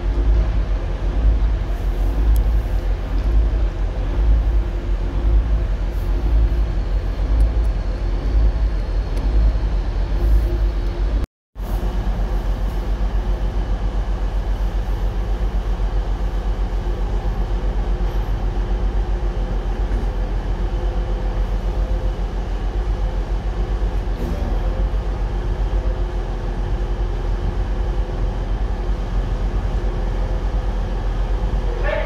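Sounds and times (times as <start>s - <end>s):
diesel train engine idling: 0.0s - 32.0s.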